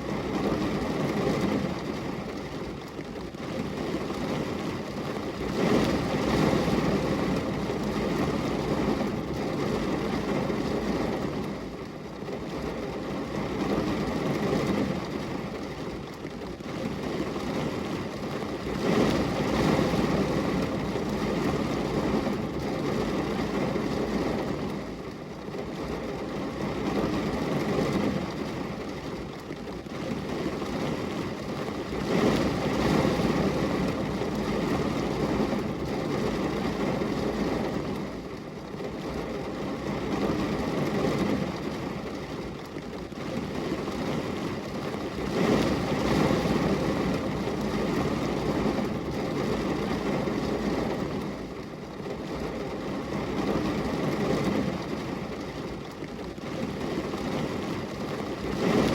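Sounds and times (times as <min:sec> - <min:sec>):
rain on a window: 0:00.0 - 0:58.9.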